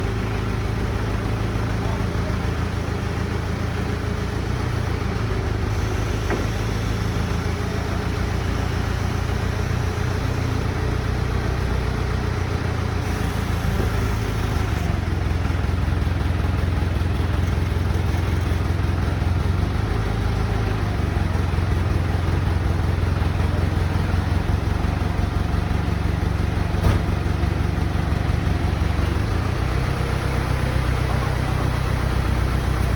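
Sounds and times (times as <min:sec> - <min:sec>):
engine droning: 0:00.0 - 0:32.9.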